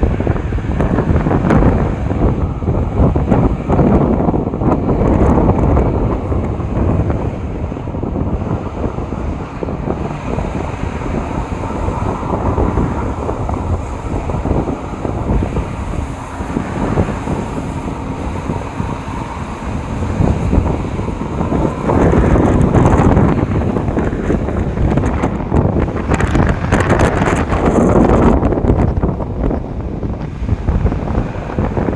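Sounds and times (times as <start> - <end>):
jet engines roaring: 0.0 - 31.9
wind buffeting microphone: 0.0 - 31.9.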